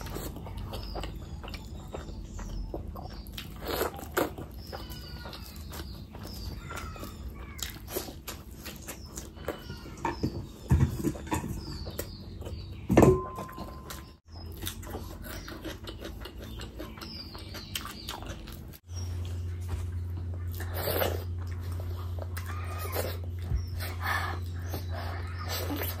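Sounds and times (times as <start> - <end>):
wet chewing: 0.0 - 26.0.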